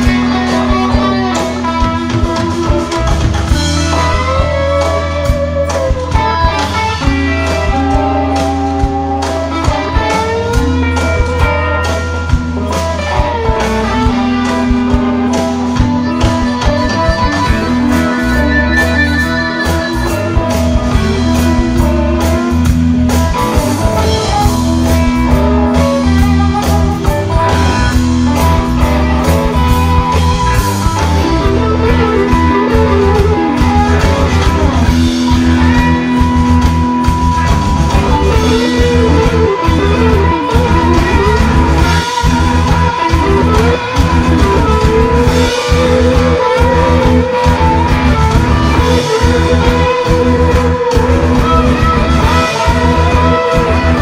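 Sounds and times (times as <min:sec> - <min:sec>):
blues-rock band playing: 0:00.0 - 0:54.0.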